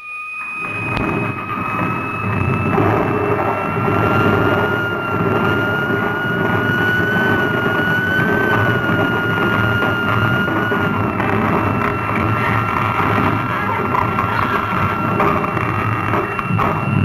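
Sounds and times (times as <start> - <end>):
electronic whine rising in pitch: 0.0 - 17.0
loud rushing rumble: 0.6 - 17.0.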